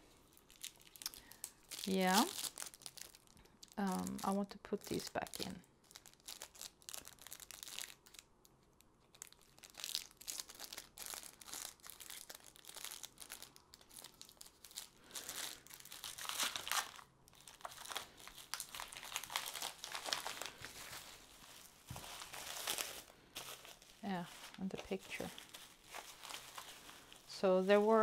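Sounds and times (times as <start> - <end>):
bubble wrap crinkling: 0.0 - 28.0.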